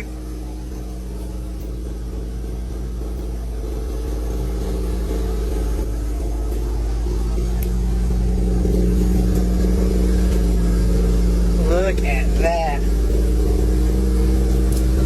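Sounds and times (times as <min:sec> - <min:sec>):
old vehicle engine running: 0:00.0 - 0:15.0.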